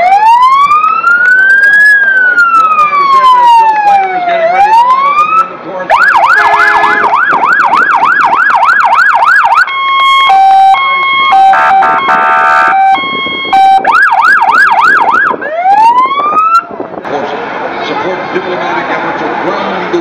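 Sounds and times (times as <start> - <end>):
electronic siren yelp and hi-lo: 0.0 - 16.7.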